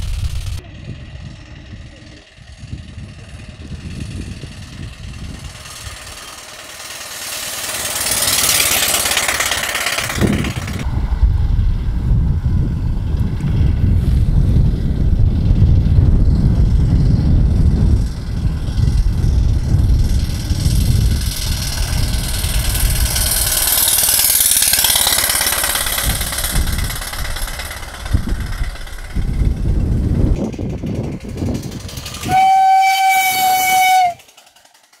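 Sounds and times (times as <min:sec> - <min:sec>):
wind rumbling on microphone: 0:00.0 - 0:06.6, 0:08.0 - 0:34.2
steam motorcycle hissing past: 0:00.0 - 0:35.0.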